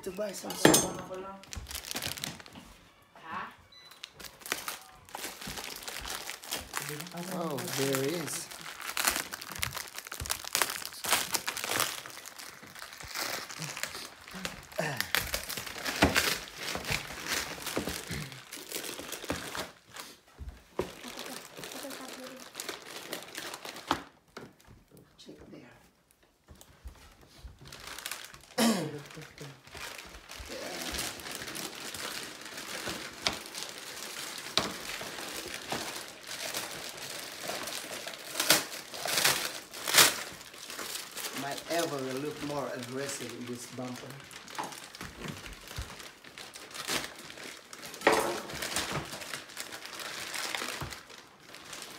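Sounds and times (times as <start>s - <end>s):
packaging wrap crinkling: 1.3s - 2.8s, 3.9s - 24.7s, 26.5s - 51.9s.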